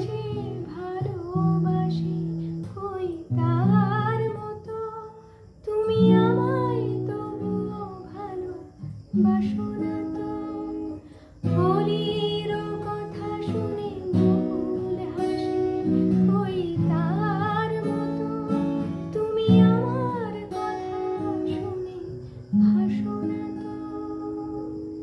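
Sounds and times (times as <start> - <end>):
acoustic guitar: 0.0 - 25.0
woman singing: 0.0 - 25.0.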